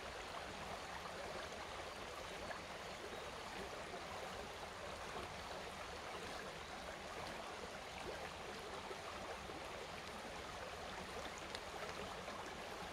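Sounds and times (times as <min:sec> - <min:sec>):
brook babbling over stones: 0:00.0 - 0:12.9.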